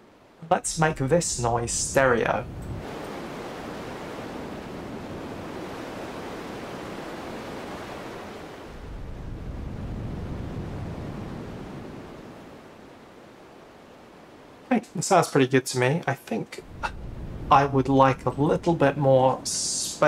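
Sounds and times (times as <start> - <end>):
synthesized sea surf: 0.0 - 14.7, 16.6 - 20.0.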